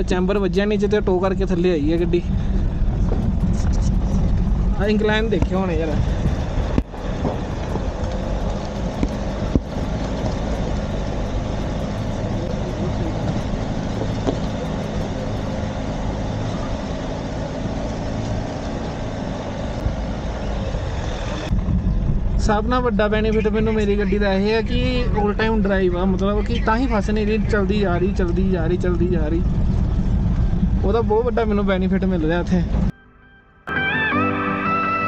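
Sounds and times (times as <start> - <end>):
car engine pulling uphill: 0.0 - 32.9
tyre and road noise: 0.0 - 32.9.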